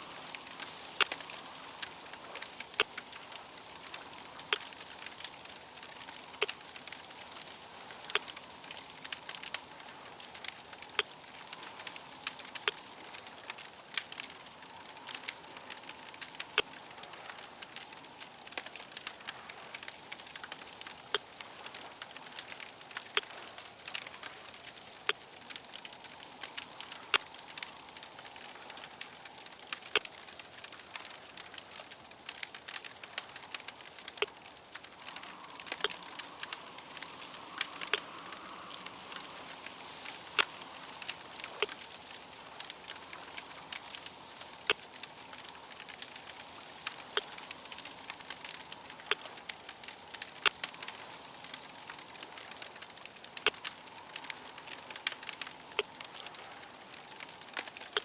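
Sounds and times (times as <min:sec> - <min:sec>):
fire crackling and hissing: 0:00.0 - 0:58.0
sharp fire snaps: 0:00.0 - 0:58.0.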